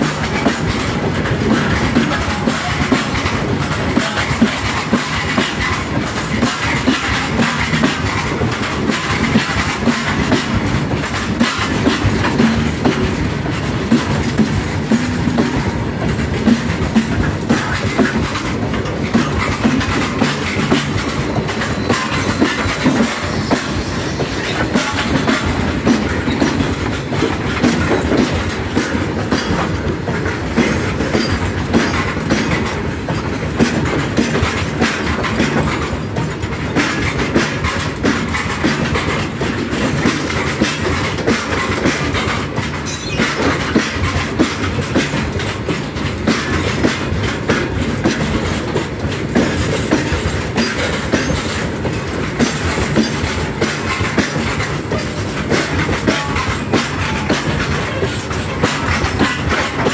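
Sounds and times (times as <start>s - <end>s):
clickety-clack of rail joints: 0.0s - 59.9s
sharp wagon clanks: 0.0s - 59.9s
steel wheels rumbling on rail: 0.0s - 59.9s.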